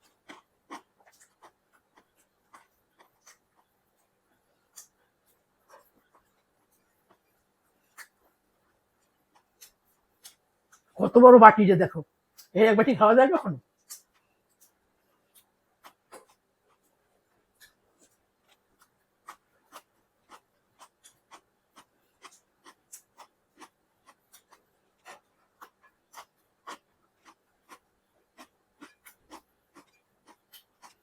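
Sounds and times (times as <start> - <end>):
wet chewing: 0.0 - 11.0, 12.3 - 12.5, 13.7 - 31.0.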